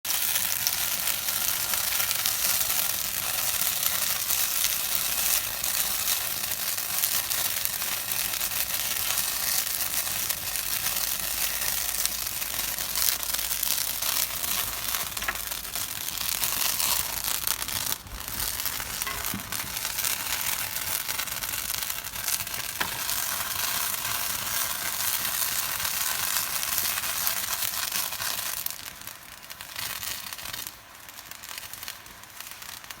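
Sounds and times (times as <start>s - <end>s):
steak sizzling in a skillet: 0.1s - 33.0s.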